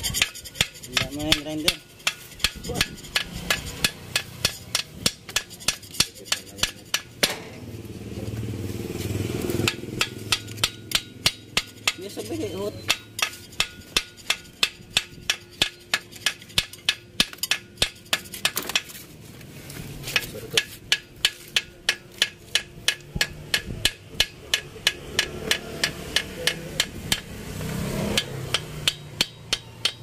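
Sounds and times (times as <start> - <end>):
hammer tapping steel: 0.0 - 7.6, 9.6 - 18.9, 20.2 - 30.0.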